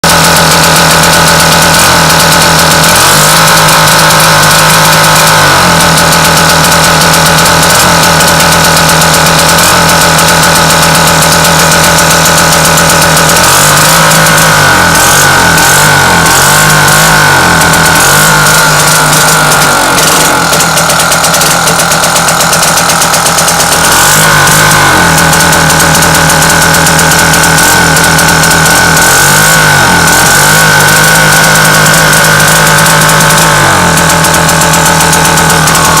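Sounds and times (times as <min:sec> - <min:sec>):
outboard motor idling rough: 0:00.0 - 0:36.0.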